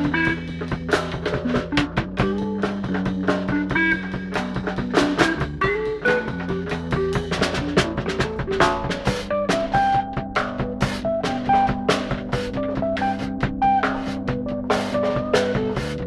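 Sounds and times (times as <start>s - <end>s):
bass guitar: 0.0s - 16.0s
drum kit: 0.0s - 16.0s
electric guitar: 0.0s - 16.0s.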